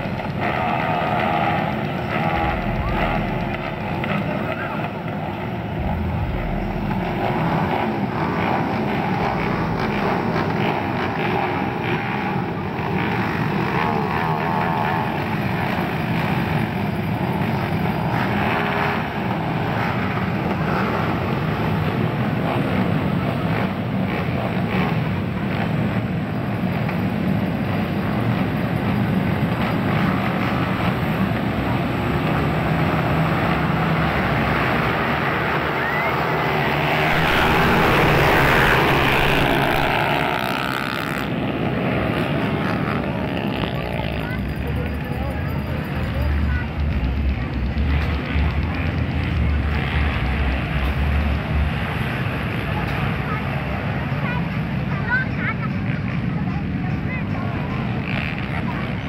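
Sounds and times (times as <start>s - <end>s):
crowd chatter: 0.0s - 59.0s
dirt bike engines revving: 0.0s - 59.0s.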